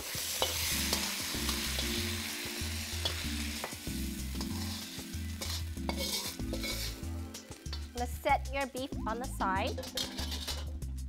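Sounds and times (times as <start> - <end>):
beef sizzling in a wok: 0.0 - 11.0.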